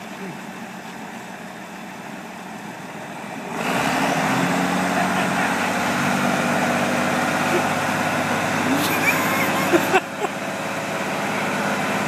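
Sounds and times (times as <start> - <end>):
tractor engines under load: 0.0 - 12.0.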